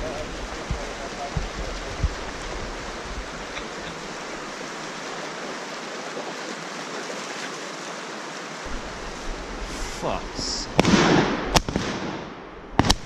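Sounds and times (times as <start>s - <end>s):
steady outdoor rushing hiss: 0.0s - 13.0s.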